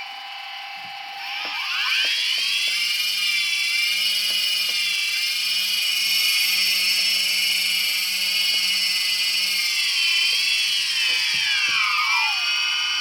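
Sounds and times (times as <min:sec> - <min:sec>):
drone propellers whining: 0:00.4 - 0:13.0.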